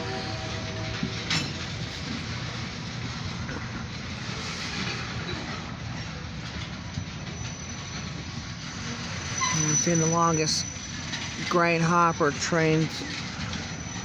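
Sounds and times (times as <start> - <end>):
freight train wheels rolling: 0.0 - 14.0.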